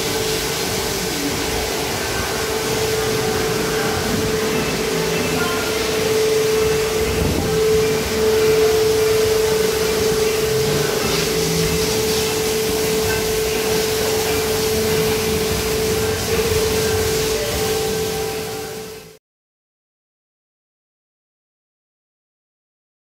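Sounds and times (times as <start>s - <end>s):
motor hum: 0.0s - 18.9s
water jet spraying hiss: 0.0s - 19.2s.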